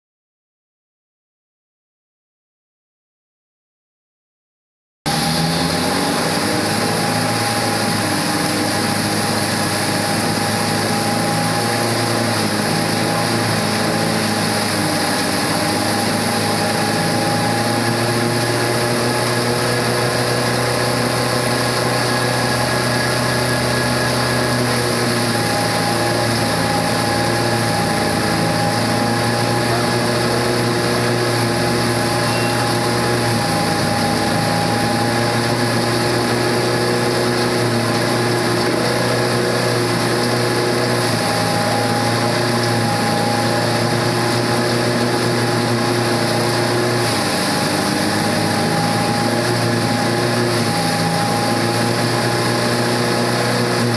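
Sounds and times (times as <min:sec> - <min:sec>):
straw grinder humming: 0:05.1 - 0:53.9.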